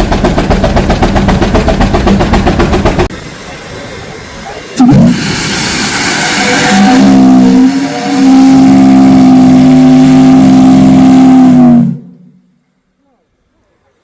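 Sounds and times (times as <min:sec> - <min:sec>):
rush of steam: 0:00.0 - 0:12.2.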